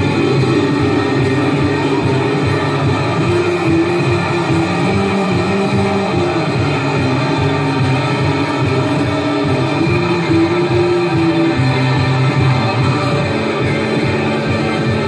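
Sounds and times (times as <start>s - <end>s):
held electric guitar notes: 0.0s - 15.0s
live rock band playing: 0.0s - 15.0s
low drone: 0.0s - 15.0s.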